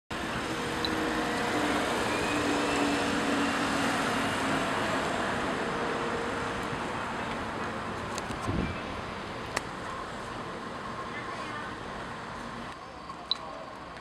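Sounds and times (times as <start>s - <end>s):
cars passing: 0.1s - 14.0s.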